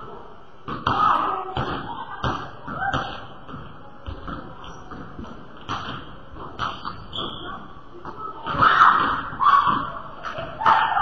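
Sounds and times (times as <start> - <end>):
basketballs bouncing on wooden floor: 0.6 - 11.0.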